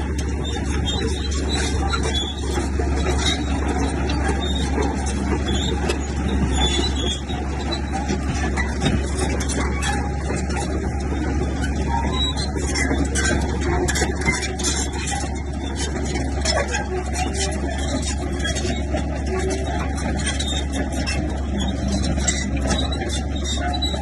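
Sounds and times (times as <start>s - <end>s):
heavy diesel machinery droning: 0.0s - 24.0s.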